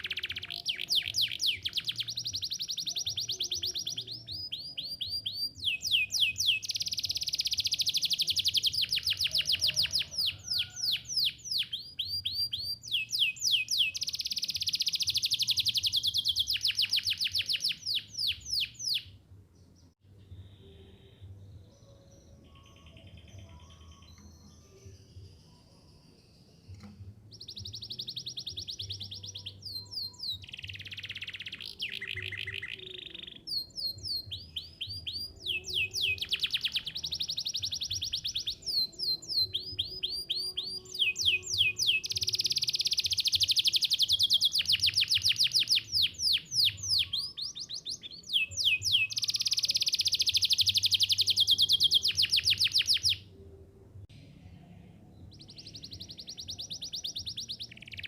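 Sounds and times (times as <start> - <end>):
canary singing trills: 0.0 - 19.2, 20.2 - 53.4, 55.2 - 58.0.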